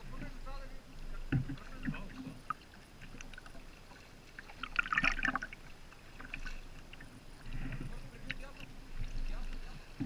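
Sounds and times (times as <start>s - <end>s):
paddle stroke splash: 0.0s - 10.0s.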